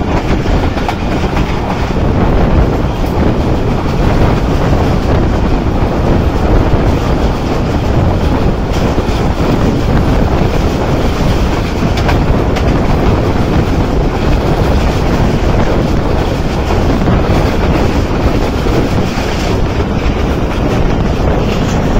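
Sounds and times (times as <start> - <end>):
train wheels rumbling on track: 0.0 - 21.9.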